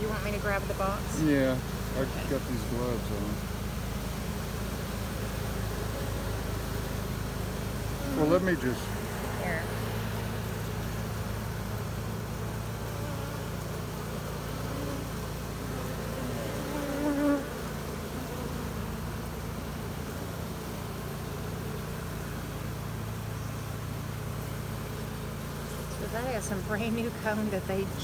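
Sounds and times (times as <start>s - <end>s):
honey bees buzzing: 0.0s - 28.0s.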